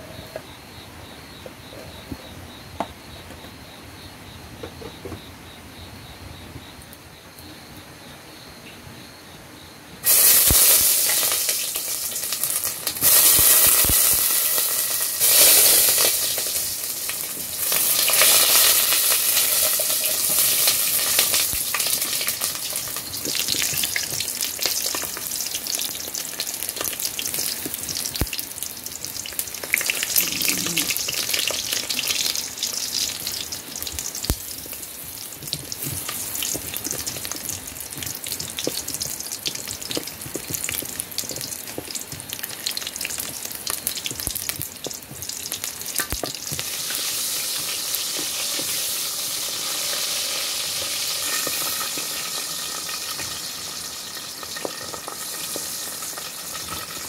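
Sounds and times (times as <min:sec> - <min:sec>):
sausages sizzling in hot fat: 0:10.0 - 0:57.0.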